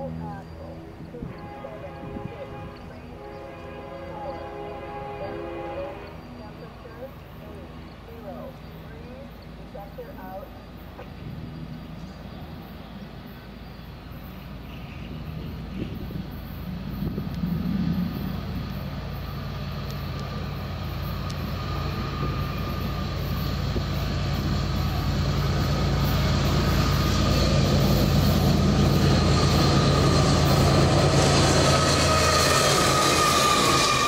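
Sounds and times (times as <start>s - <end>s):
low hum: 0.0s - 34.0s
train approaching: 0.0s - 34.0s.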